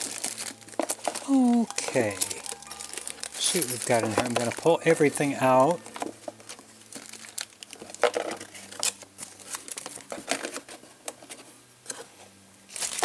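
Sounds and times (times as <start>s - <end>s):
plastic bag crinkling: 0.0s - 10.5s, 12.7s - 13.0s.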